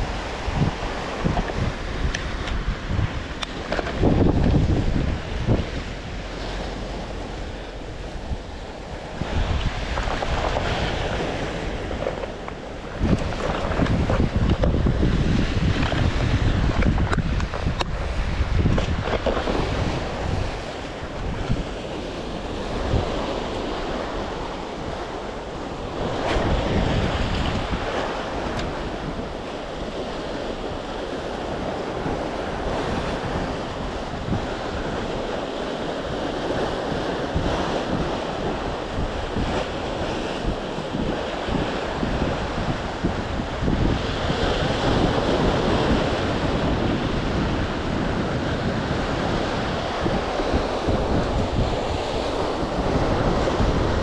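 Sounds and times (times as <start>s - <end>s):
sea waves washing on shore: 0.0s - 54.0s
wind gusting on microphone: 0.0s - 54.0s.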